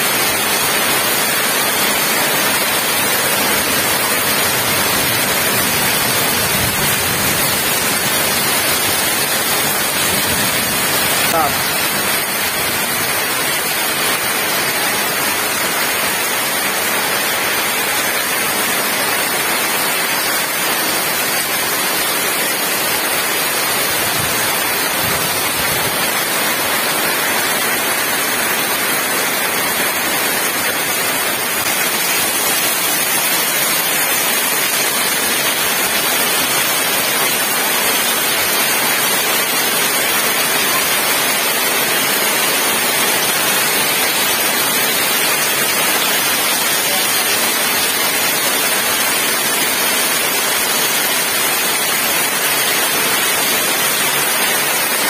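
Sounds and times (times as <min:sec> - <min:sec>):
rain on roofs and concrete: 0:00.0 - 0:55.0
water pouring off roof: 0:00.0 - 0:55.0.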